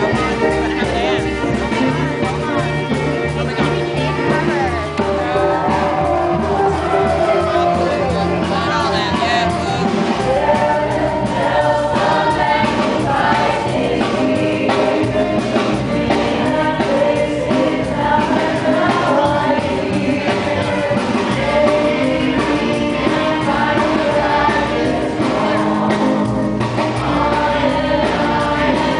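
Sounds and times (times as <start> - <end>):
choir singing with accompaniment: 0.0 - 28.9.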